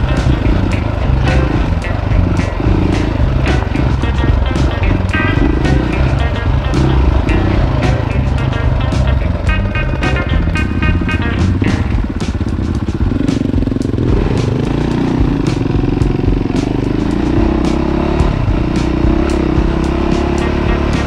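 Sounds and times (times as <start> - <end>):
dirt bike engine: 0.0 - 21.0.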